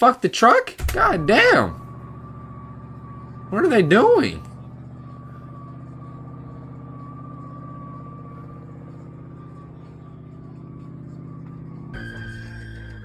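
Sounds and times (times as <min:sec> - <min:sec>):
vehicle engine at steady revs: 0:01.8 - 0:13.0.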